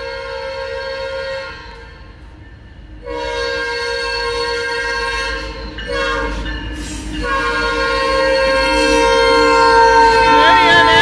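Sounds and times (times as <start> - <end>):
locomotive air horn blasts: 0.0 - 2.0, 3.0 - 6.4, 7.2 - 11.0.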